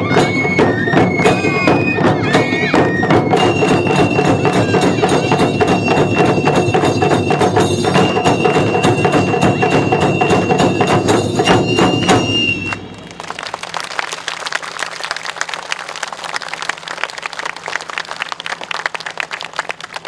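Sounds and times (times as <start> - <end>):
festival drums and wood-block strikes: 0.0 - 20.0.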